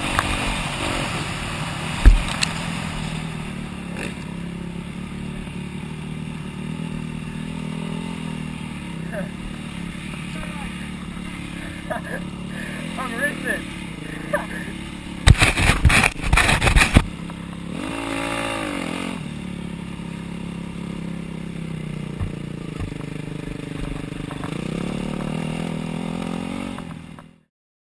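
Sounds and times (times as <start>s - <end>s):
engine revving: 0.0s - 27.5s
motorbike engine at low revs: 0.0s - 27.5s.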